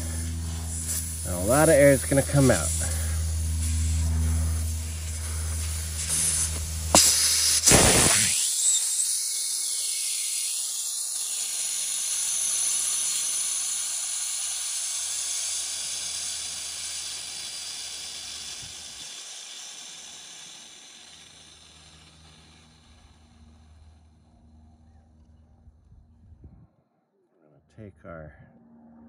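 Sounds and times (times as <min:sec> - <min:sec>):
air hissing out of tire: 0:00.0 - 0:24.2.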